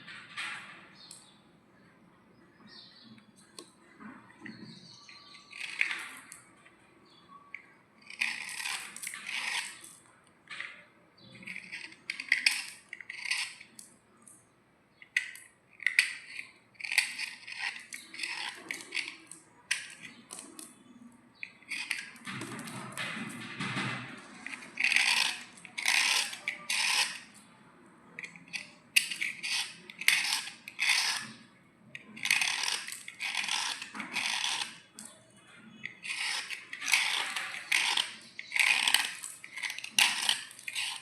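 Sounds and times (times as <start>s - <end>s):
slate pencils crunching and scraping: 4.3s - 6.5s, 8.0s - 14.0s, 15.0s - 27.5s, 28.1s - 41.0s.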